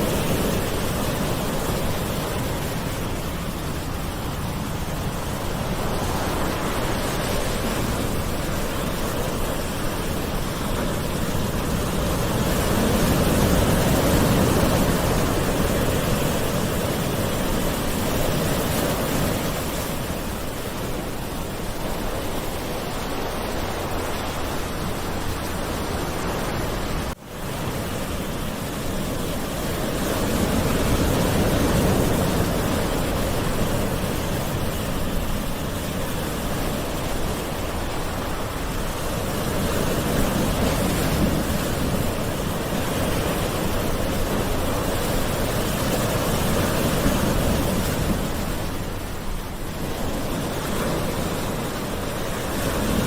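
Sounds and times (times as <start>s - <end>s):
gentle ocean waves: 0.0s - 53.0s.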